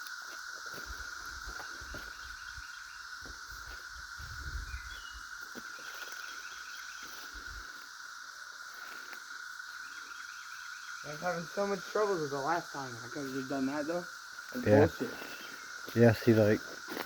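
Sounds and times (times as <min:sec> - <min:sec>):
cicada chorus drone: 0:00.0 - 0:17.0.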